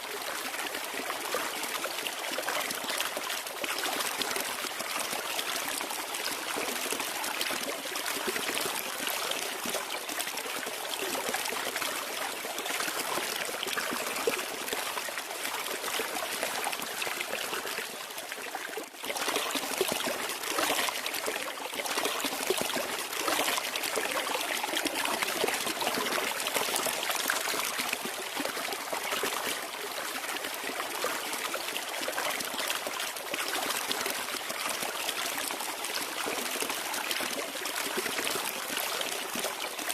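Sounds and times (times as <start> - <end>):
water trickling steadily: 0.0 - 39.9.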